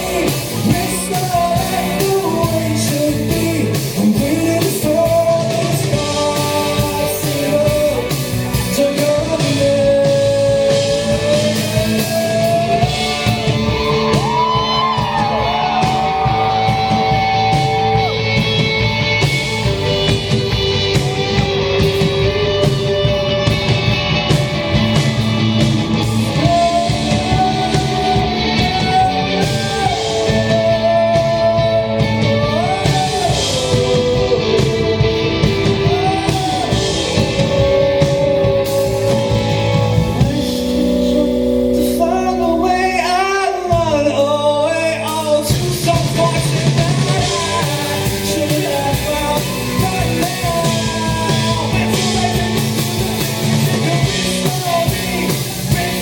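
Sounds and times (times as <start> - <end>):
live rock band playing: 0.0 - 56.0
man singing: 0.0 - 56.0.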